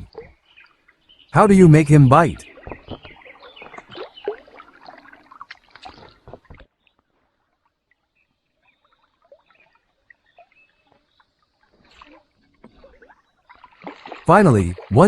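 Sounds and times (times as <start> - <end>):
water splashing against a boat: 0.0 - 15.0.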